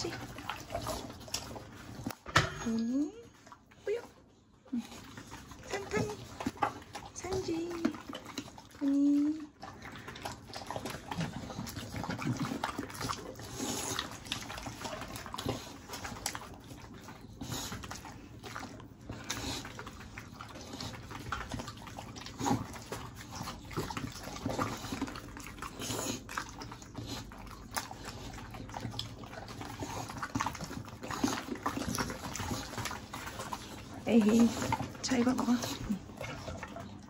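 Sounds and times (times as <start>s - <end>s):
dogs crunching carrots: 0.0s - 2.4s, 3.3s - 37.0s.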